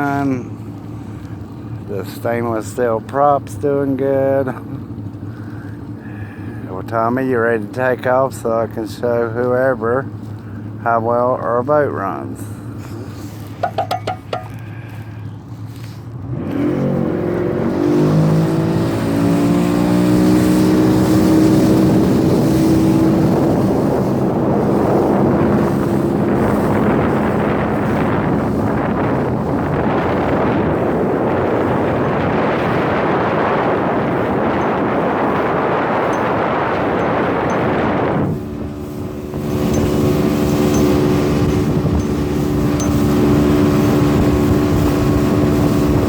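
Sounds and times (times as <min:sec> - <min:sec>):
motorboat engine revving: 0:00.0 - 0:46.0
rushing water and wind: 0:00.0 - 0:46.0.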